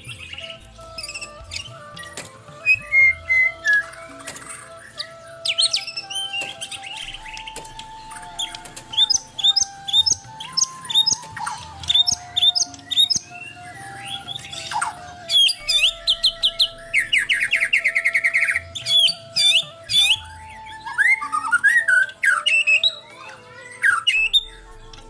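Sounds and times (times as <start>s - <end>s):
bird singing chirps and whistles: 0.0s - 25.0s.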